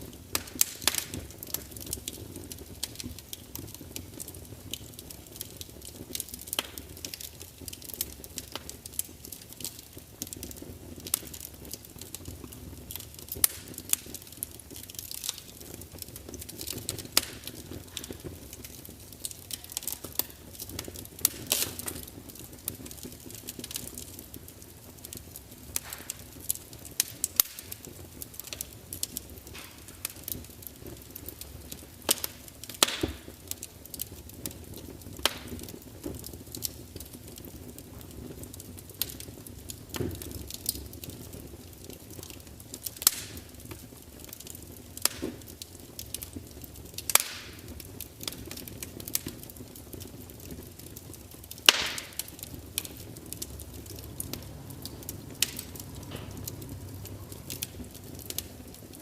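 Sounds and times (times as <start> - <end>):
fire crackling and popping: 0.0 - 59.0
flames rumbling: 0.0 - 59.0.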